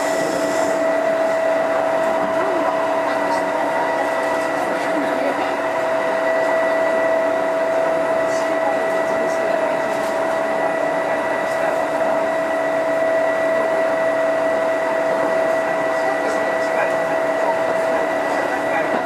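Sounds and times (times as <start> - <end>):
train motor whine: 0.0 - 19.0
train rolling noise: 0.0 - 19.0.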